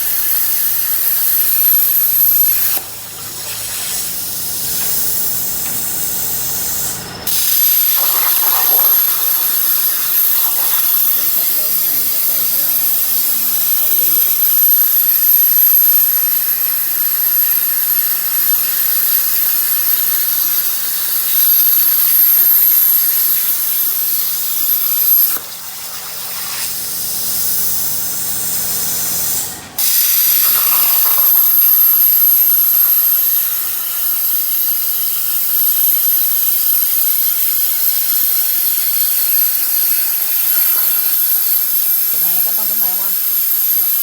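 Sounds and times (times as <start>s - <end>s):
metal-cutting machine hiss and whine: 0.0s - 44.0s.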